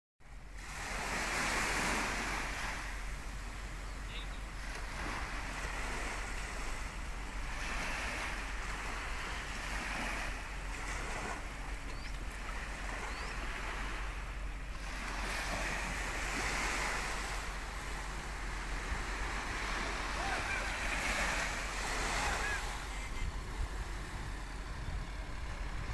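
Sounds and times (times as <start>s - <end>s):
sea water washing against shore: 0.6s - 25.9s
wind rumbling on microphone: 2.8s - 25.9s.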